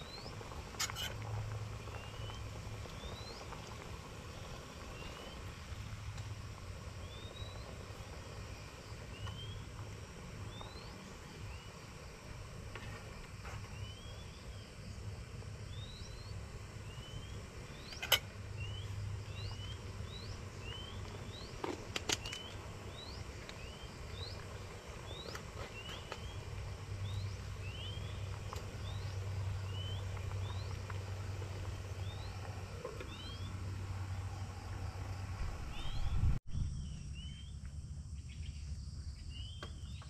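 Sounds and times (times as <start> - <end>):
bird chirping: 0.0 - 1.1, 1.8 - 3.6, 7.0 - 9.7, 10.4 - 11.9, 13.7 - 15.0, 15.6 - 40.0
low steady rumble: 0.0 - 40.0.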